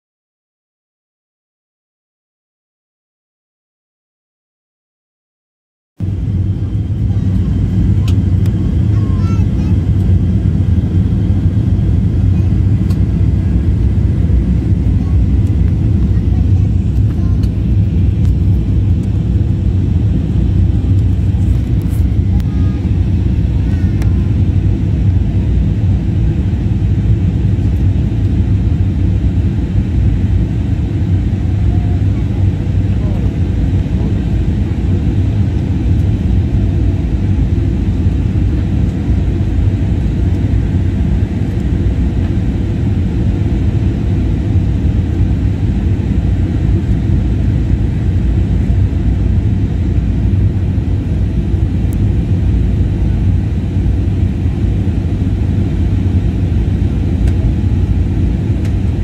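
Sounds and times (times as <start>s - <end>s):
airliner cabin engine noise: 6.0s - 59.0s.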